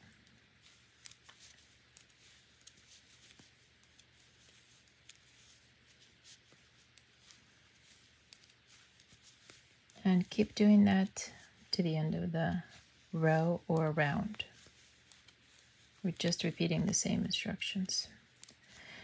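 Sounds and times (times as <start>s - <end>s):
knitting needles clicking: 0.1s - 18.9s.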